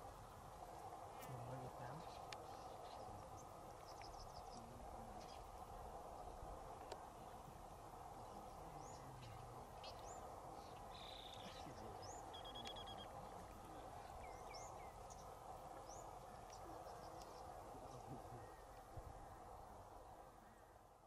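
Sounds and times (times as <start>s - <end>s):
background hiss: 0.0s - 21.0s
faint bird chirps: 1.2s - 5.6s, 8.2s - 20.8s.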